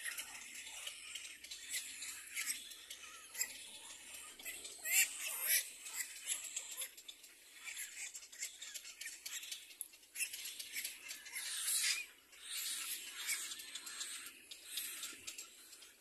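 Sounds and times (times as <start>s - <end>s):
chicks raspy begging calls: 0.0s - 16.0s.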